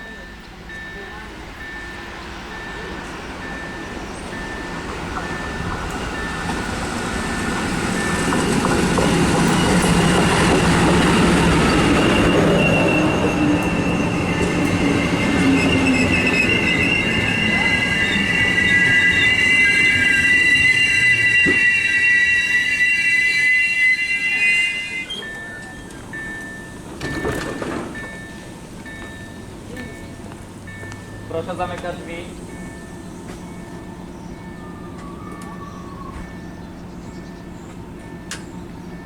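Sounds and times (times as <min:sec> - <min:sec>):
diesel locomotive rumbling: 0:00.0 - 0:39.0
train wheels and brakes squealing: 0:00.0 - 0:39.0.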